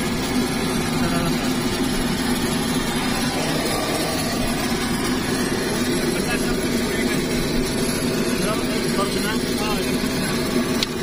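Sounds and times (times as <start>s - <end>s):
turboprop engine drone: 0.0s - 11.0s.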